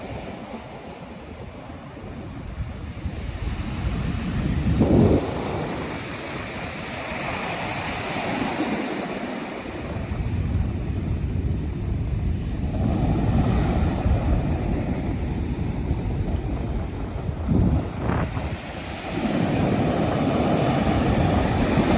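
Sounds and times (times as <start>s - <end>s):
ocean surf breaking ashore: 0.0s - 21.9s
wind buffeting microphone: 0.0s - 21.9s.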